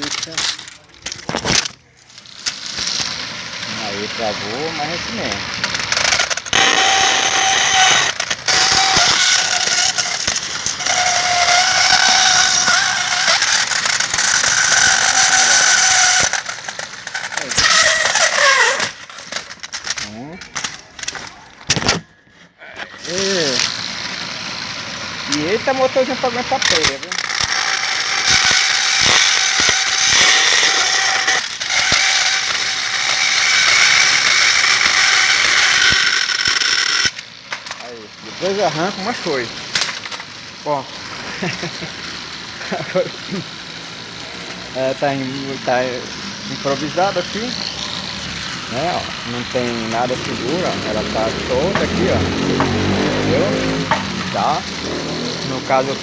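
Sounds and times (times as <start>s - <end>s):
small motor labouring: 0.0s - 56.0s
saw blade cutting plastic squealing: 2.2s - 22.1s, 22.8s - 56.0s.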